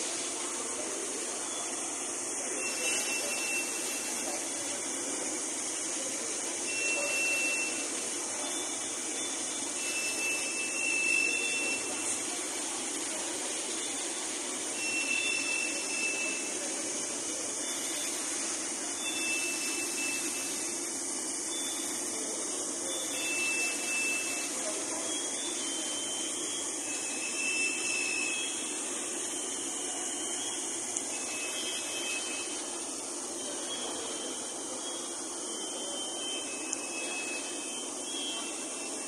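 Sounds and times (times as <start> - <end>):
machine noise with hiss: 0.0 - 39.0.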